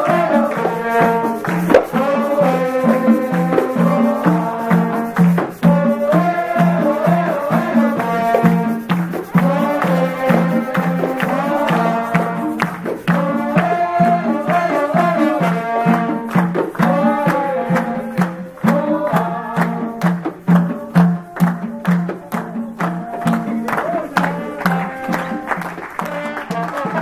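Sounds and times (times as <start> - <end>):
trumpet and brass melody: 0.0 - 19.6, 23.1 - 27.0
frame drums beating: 0.0 - 27.0.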